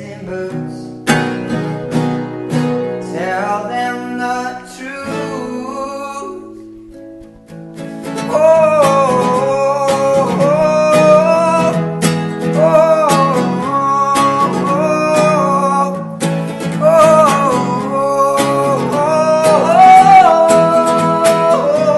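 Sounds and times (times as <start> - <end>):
person singing: 0.0 - 1.9, 2.9 - 6.9, 8.0 - 21.9
song with acoustic guitar: 0.0 - 21.9.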